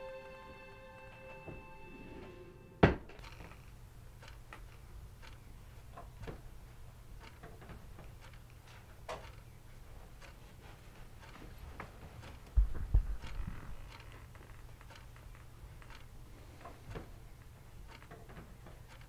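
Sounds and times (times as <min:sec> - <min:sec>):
clock ticking faintly: 0:03.2 - 0:19.0.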